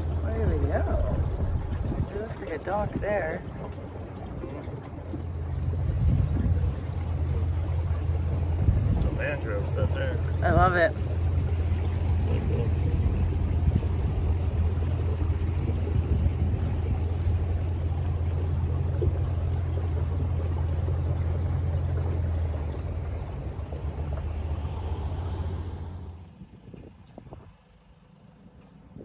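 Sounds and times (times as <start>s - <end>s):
outboard motor running: 0.0s - 29.0s
water rushing past hull: 0.0s - 29.0s.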